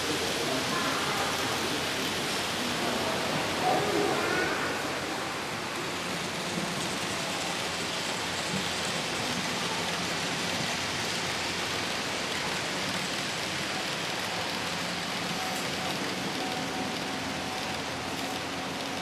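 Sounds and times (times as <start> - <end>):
model trains running: 0.0 - 19.0.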